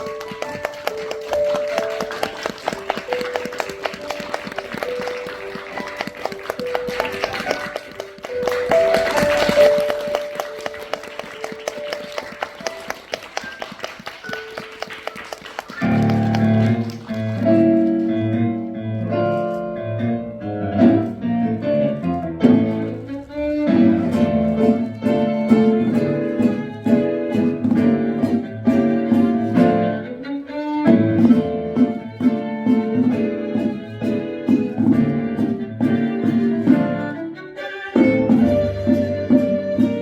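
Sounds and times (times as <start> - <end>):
live band music with strings: 0.0 - 40.0.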